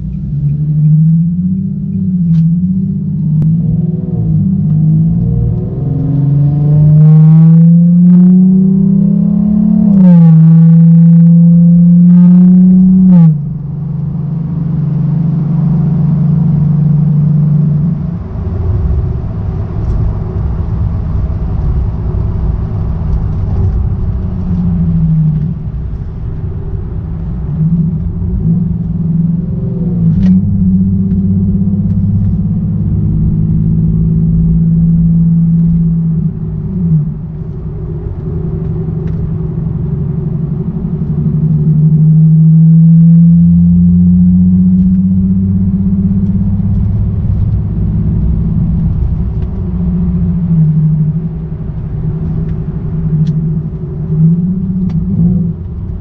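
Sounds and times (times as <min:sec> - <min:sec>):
car engine rising and falling: 0:00.0 - 0:56.0
road rumble: 0:00.0 - 0:56.0.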